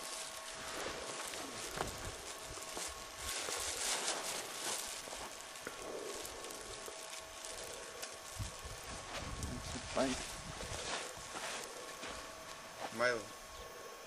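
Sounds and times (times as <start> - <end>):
plastic bag crinkling: 0.0 - 12.1
faint steady whine: 0.0 - 14.0.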